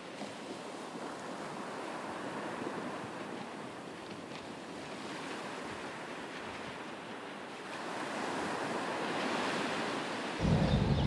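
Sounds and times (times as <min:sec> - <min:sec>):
ocean surf washing: 0:00.0 - 0:11.0.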